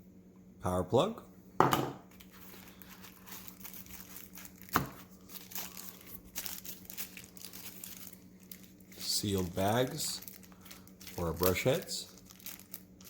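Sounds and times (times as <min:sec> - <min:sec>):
plastic packaging crinkling: 0:02.0 - 0:13.0.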